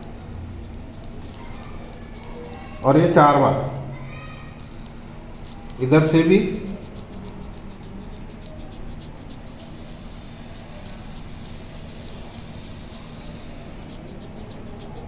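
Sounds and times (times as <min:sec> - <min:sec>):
hands rubbing on skin: 0:00.6 - 0:03.1, 0:05.3 - 0:15.0.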